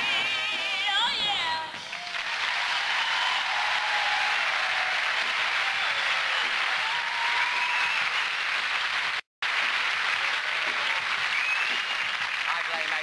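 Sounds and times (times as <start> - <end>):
audience cheering: 0.0 - 13.0
audience applauding: 1.8 - 13.0.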